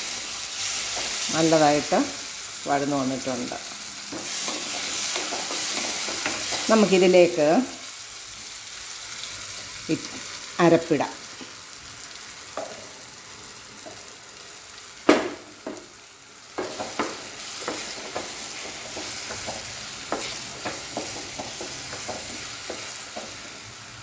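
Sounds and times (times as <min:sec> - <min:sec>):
food sizzling lightly: 0:00.0 - 0:24.0.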